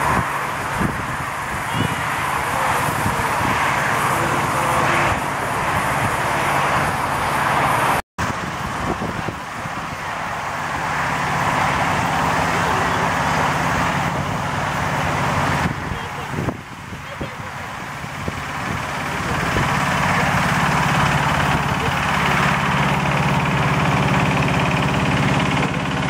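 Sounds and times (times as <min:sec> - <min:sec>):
miniature locomotive engine hum: 0:00.0 - 0:26.0
train rushing noise: 0:00.0 - 0:26.0.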